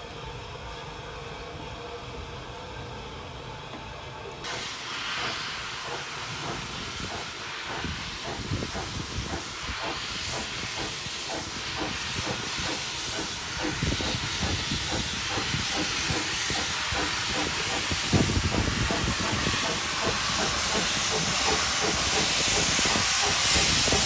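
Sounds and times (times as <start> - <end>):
steam locomotive hissing steam: 0.0 - 24.0.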